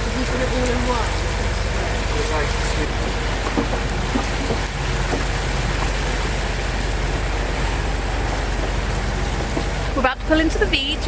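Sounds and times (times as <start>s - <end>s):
boat engine hum: 0.0s - 11.0s
rushing water and wind: 0.0s - 11.0s.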